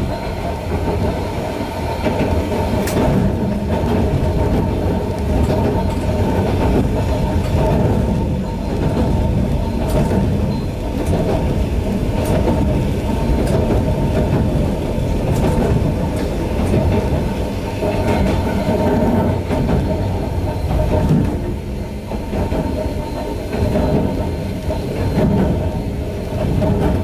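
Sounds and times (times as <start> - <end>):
train wheels rumbling on rails: 0.0 - 27.0
wheels clicking over rail joints: 0.0 - 27.0.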